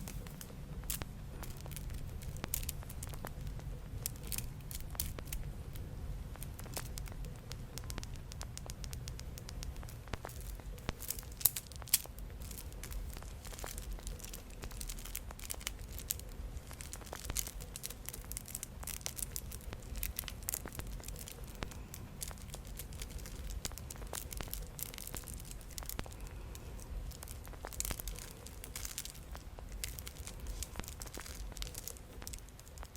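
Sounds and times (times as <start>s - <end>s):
beads clicking and rattling: 0.0s - 32.9s.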